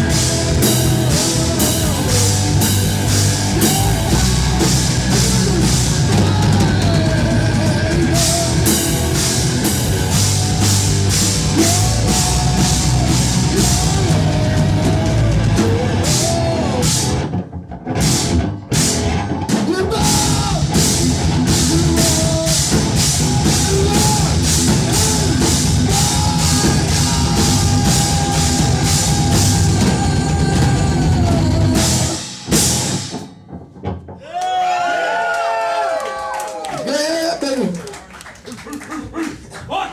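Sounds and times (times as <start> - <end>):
heavy rock music: 0.0 - 33.9
pounding drum kit: 0.0 - 34.9.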